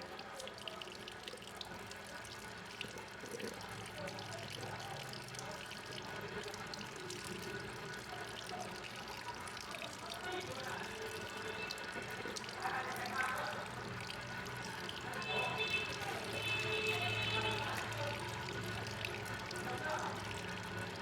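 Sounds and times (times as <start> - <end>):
water running into basin: 2.6 - 21.0.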